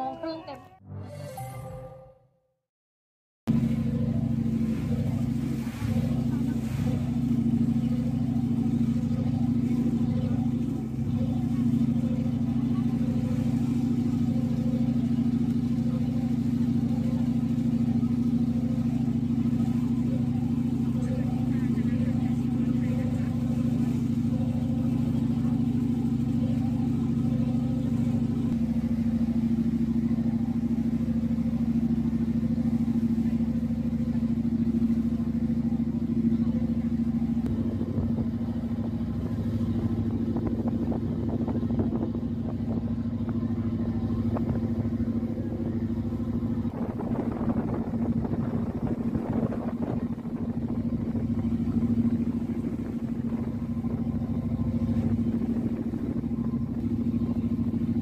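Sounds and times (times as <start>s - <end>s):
vehicle engine humming: 3.5s - 58.0s.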